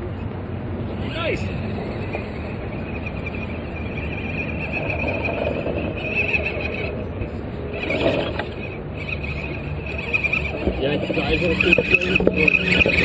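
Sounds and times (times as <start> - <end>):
electric motor whining: 1.2 - 13.0.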